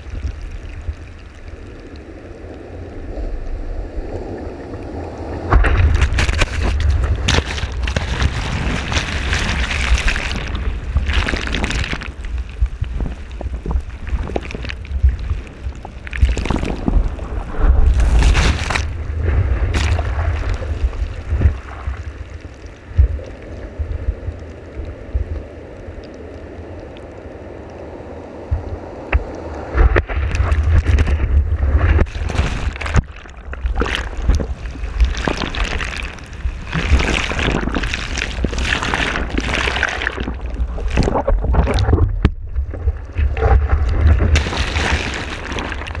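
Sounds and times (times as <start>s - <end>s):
seawater rushing and splashing: 0.0s - 46.0s.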